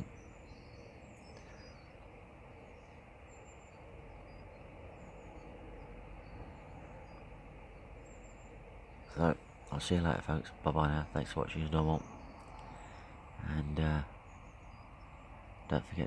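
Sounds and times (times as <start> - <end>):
distant bird chirps: 0.0 - 16.0
steady low hiss: 0.0 - 16.0.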